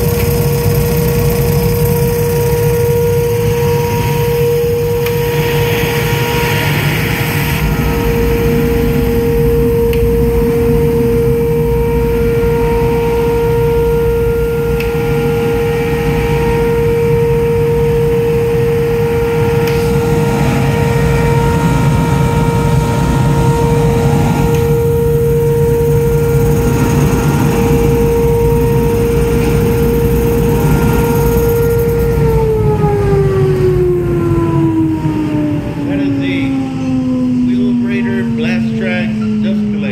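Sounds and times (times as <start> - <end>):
dust collector vacuum running: 0.0 - 39.9.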